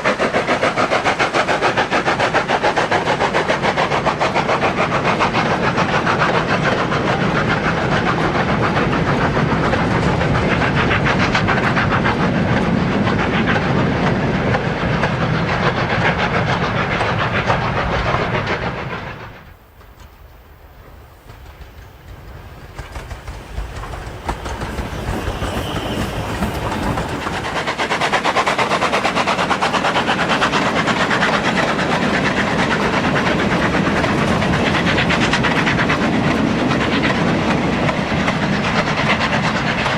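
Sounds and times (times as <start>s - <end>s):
model train running on track: 0.0s - 39.9s.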